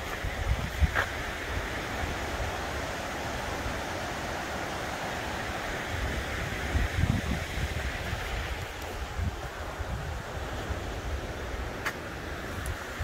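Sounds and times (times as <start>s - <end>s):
wind buffeting microphone: 0.0s - 4.6s, 5.2s - 13.0s
mountain stream rushing: 0.0s - 13.0s.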